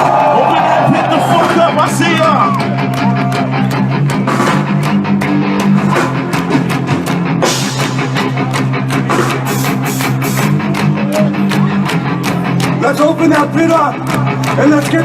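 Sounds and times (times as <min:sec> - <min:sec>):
bass guitar: 0:00.0 - 0:15.0
drum kit beat: 0:00.0 - 0:15.0
electric guitar: 0:01.8 - 0:15.0.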